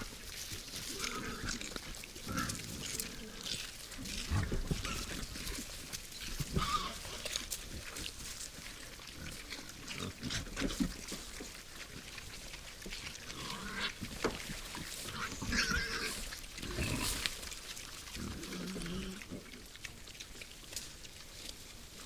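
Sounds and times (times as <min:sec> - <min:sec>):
wild boars grunting: 0:00.0 - 0:08.0, 0:09.0 - 0:19.8.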